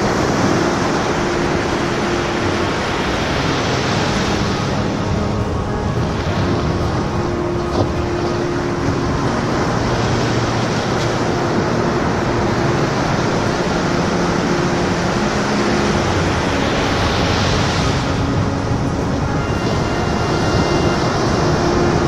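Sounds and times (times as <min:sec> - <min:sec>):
ocean waves washing: 0:00.0 - 0:22.0.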